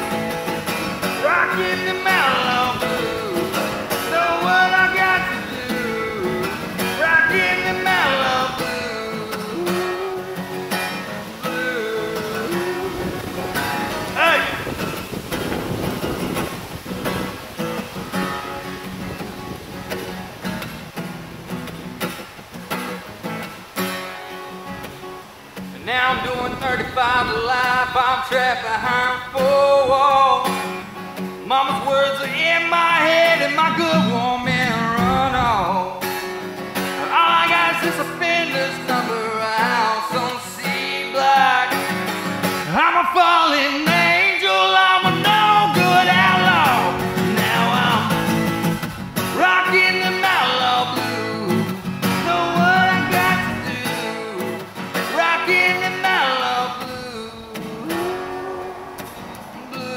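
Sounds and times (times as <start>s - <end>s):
acoustic guitar: 0.0s - 59.9s
man singing: 0.8s - 14.8s, 25.7s - 59.9s.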